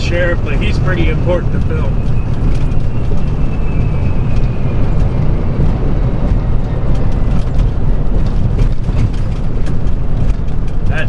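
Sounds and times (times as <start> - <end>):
truck engine and tyres rumbling: 0.0 - 11.0
knocks and rattles from bumps: 0.8 - 11.0.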